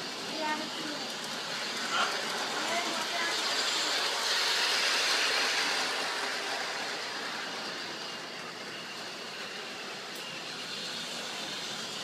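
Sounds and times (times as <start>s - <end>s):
toy train whirring rattle: 0.0s - 12.0s.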